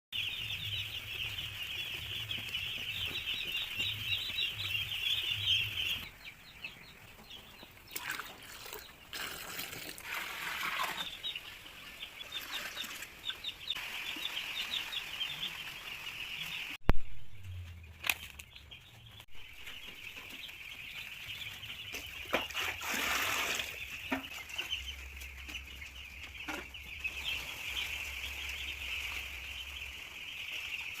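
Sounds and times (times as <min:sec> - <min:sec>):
chicks peeping: 0:00.1 - 0:31.0.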